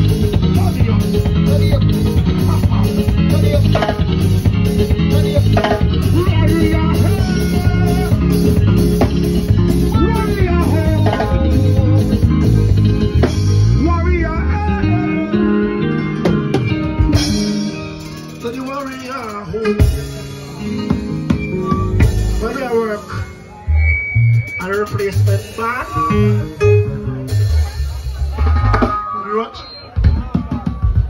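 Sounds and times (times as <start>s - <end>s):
drum kit: 0.0s - 15.2s, 16.1s - 29.2s, 29.9s - 31.0s
electric bass: 0.0s - 29.0s
keyboards: 0.0s - 31.0s.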